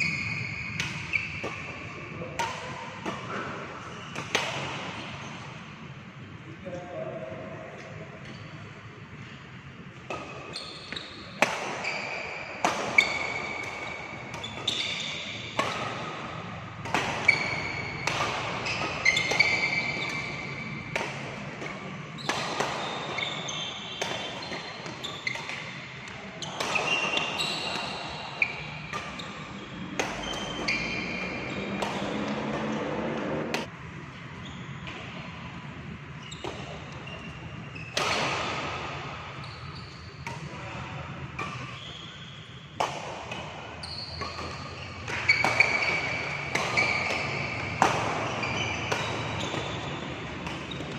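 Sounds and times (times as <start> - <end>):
shoes squeaking on court floor: 0.0 - 5.5, 7.9 - 33.7, 34.4 - 50.9
racket hitting shuttlecock: 0.5 - 5.3, 10.0 - 33.7, 36.4 - 50.9.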